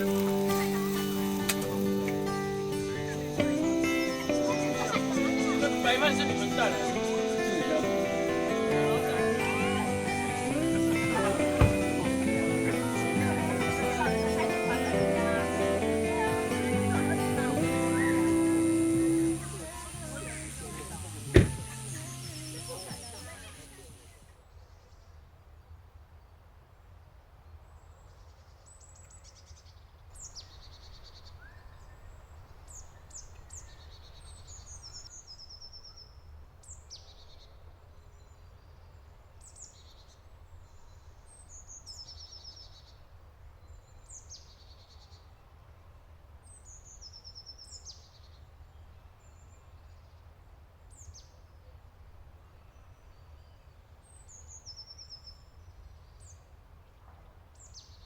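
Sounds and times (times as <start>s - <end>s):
songbirds calling: 0.0s - 25.2s, 27.5s - 45.8s, 46.4s - 58.0s.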